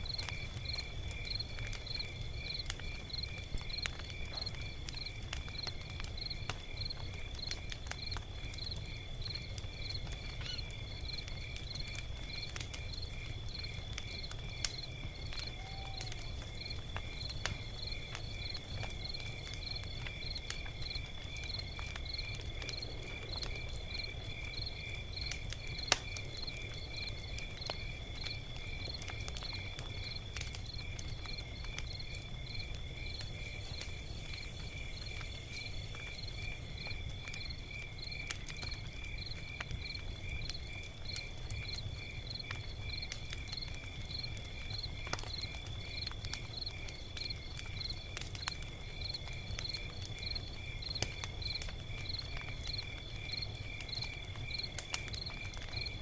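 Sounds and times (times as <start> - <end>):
crickets chirping: 0.0 - 56.0
log fire crackling: 0.0 - 56.0.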